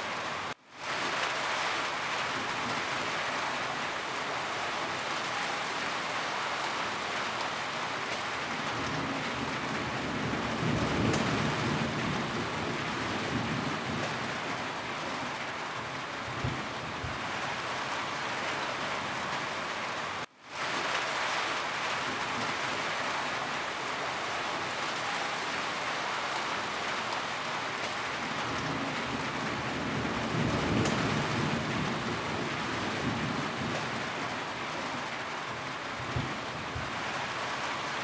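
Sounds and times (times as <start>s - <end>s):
rain falling on a roof: 0.0s - 38.0s.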